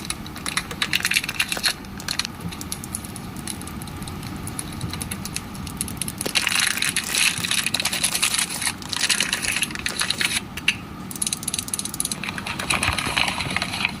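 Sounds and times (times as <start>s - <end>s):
crinkling being crushed by hand: 0.0s - 14.0s.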